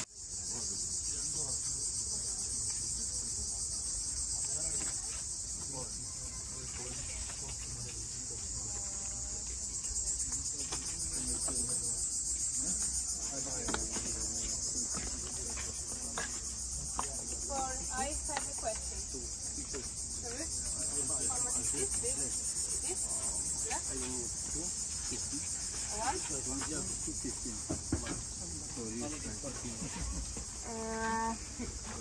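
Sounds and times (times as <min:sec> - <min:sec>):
cicadas droning: 0:00.0 - 0:32.0.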